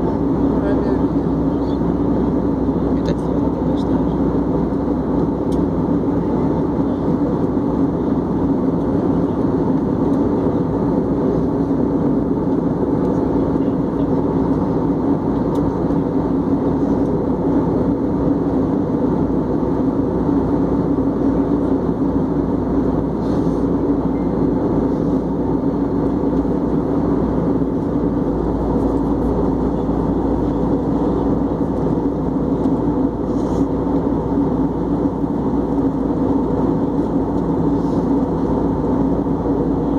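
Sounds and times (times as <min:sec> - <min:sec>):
constant hum: 0:00.0 - 0:39.9
jet engine drone: 0:00.0 - 0:39.9
rushing airflow: 0:00.0 - 0:39.9.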